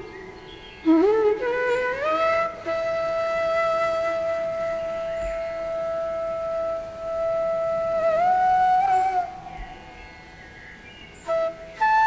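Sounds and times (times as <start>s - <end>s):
slow calm melody: 0.0s - 12.0s.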